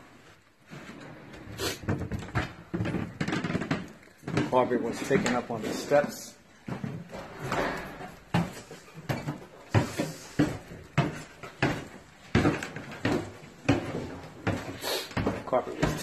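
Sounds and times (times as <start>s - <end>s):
footsteps on wooden floor: 0.6s - 16.0s
footsteps on wooden stairs: 1.3s - 16.0s.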